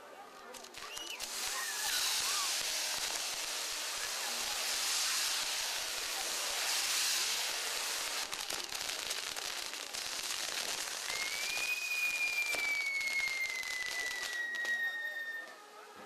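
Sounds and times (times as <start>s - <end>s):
firework wheel hissing and crackling: 0.0s - 16.0s.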